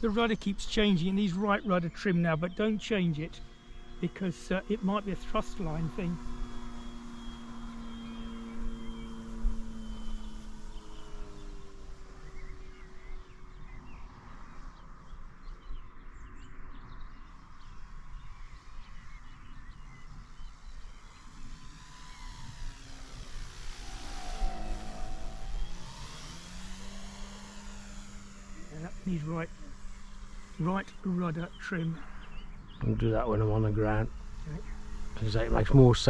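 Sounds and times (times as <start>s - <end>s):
model plane motor whining: 0.0s - 16.2s, 17.4s - 36.0s.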